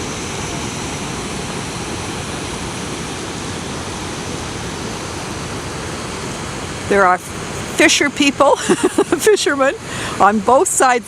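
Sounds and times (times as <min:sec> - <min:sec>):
river rushing at a dam: 0:00.0 - 0:11.0.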